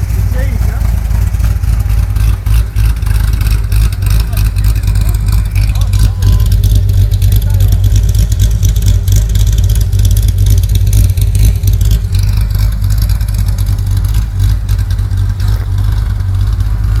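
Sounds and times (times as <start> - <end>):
car engine idling choppily: 0.0 - 17.0.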